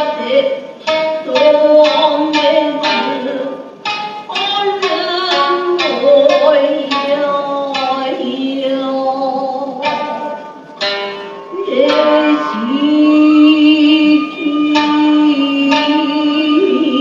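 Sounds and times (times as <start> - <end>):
person singing long held notes: 0.0 - 3.7, 4.3 - 10.7, 11.4 - 17.0
plucked shamisen notes: 0.0 - 17.0.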